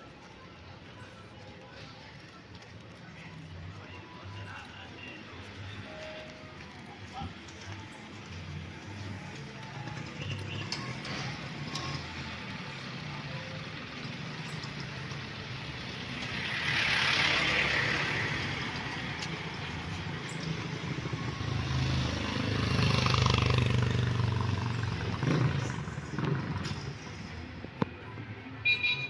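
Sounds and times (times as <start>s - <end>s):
vehicles passing by: 0.0s - 29.0s.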